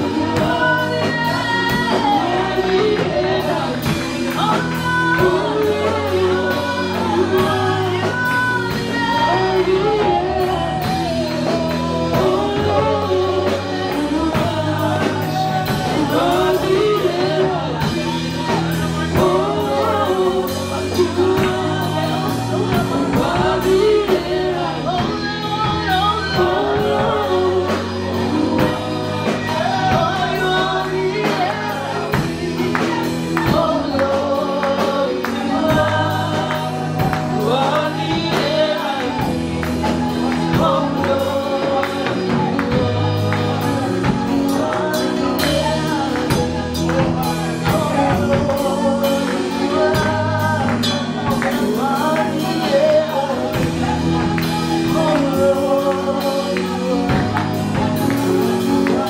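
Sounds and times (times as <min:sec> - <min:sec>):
group of singers: 0:00.0 - 0:59.0
keyboard accompaniment: 0:00.0 - 0:59.0.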